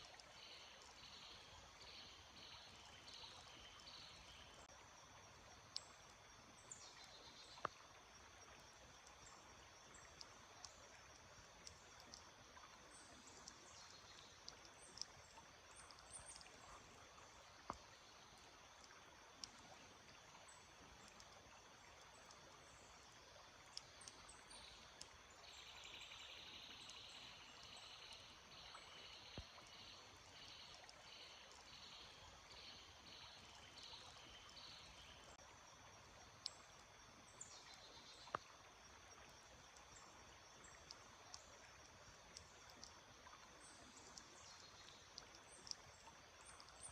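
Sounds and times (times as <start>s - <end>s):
small stream flowing: 0.0s - 46.9s.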